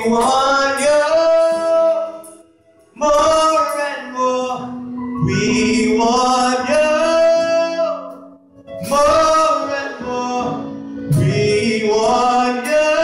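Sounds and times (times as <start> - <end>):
gospel singing: 0.0 - 13.0
low accompaniment: 0.0 - 13.0.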